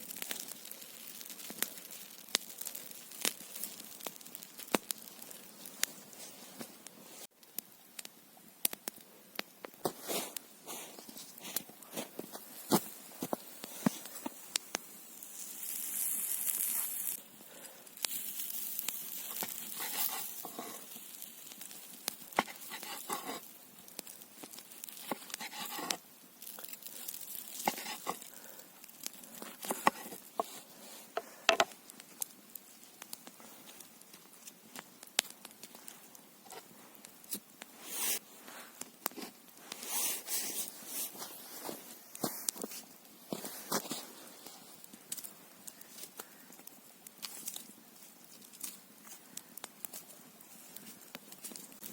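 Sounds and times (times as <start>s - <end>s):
rustling and crinkling materials: 0.0s - 7.3s, 9.7s - 51.9s.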